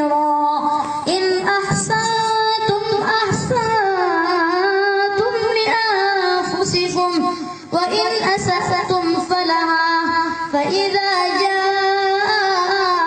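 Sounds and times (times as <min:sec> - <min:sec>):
child chanting melodically: 0:00.0 - 0:13.0.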